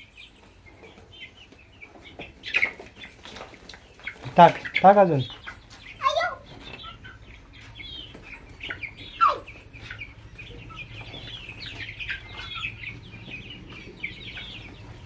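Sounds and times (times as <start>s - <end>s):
chickens chirping and clucking: 0.0s - 15.0s.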